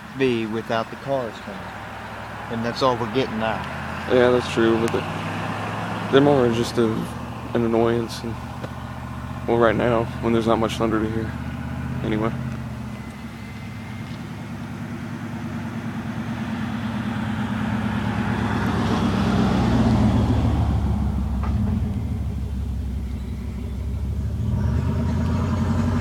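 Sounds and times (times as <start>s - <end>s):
car passing: 0.0s - 26.0s
idling engine hum: 0.0s - 26.0s.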